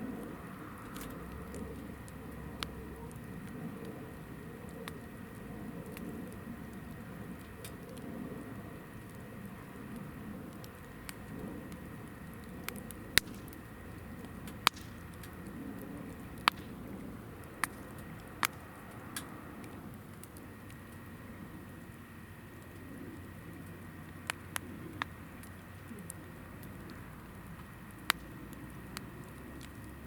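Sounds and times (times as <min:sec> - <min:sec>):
fire crackling pops: 0:00.0 - 0:30.0
firewood burning: 0:00.0 - 0:30.0.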